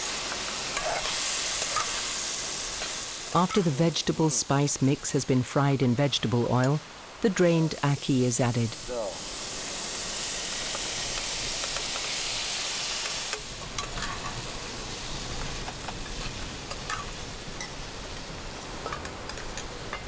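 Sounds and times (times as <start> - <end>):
food sizzling in oil: 0.0 - 5.6, 6.9 - 20.0.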